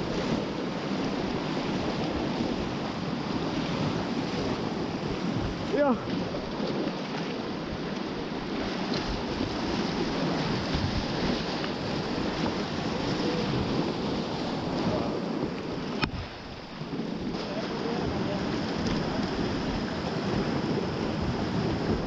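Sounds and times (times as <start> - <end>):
whitewater rapids rushing: 3.6 - 22.0.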